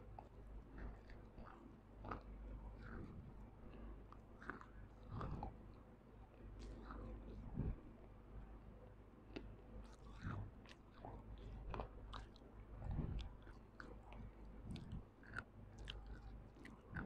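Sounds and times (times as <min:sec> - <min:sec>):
person chewing crunchy clay: 0:00.0 - 0:07.8, 0:09.2 - 0:17.0.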